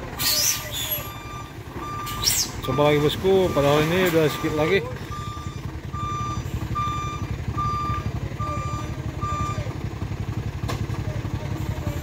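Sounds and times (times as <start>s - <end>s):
truck engine rumbling: 0.0s - 12.0s
truck reversing alarm beeping: 0.4s - 10.4s.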